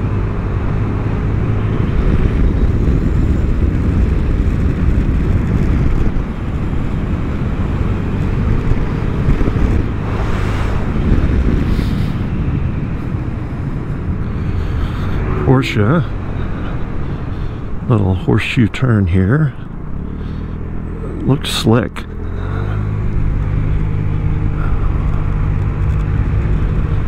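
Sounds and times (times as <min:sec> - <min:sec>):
wind rush on microphone: 0:00.0 - 0:17.9, 0:22.5 - 0:27.0.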